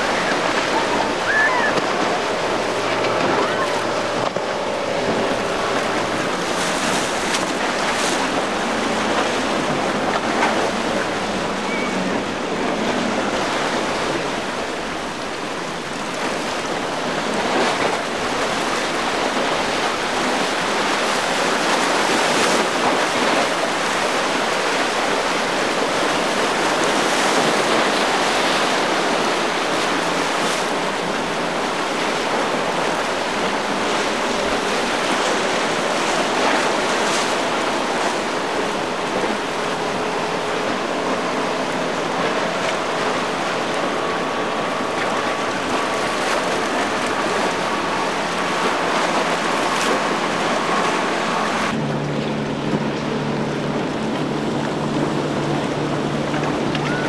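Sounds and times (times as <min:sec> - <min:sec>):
faint outboard motor hum: 0:00.0 - 0:57.0
waves and surf rushing: 0:00.0 - 0:57.0.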